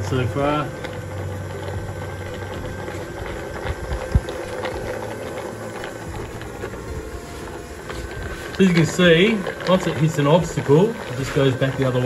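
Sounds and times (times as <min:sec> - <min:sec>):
robot vacuum motor hum: 0:00.0 - 0:12.0.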